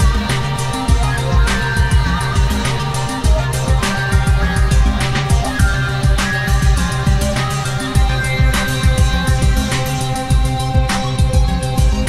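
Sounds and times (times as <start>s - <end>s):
music with bass and drums: 0.0s - 12.0s.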